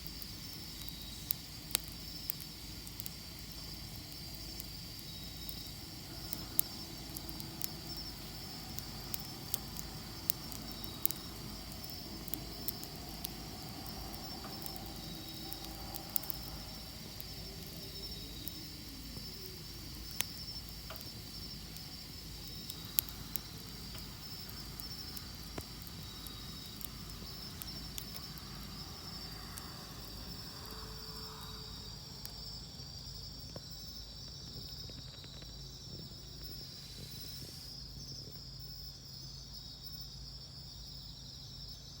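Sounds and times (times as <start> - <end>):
campfire crackling: 0.0 - 37.8
insects chirring: 0.0 - 42.0.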